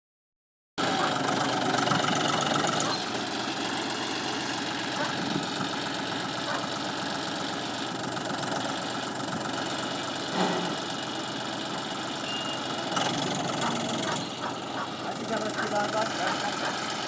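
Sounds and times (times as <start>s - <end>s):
tractor diesel engine running: 0.8s - 17.0s.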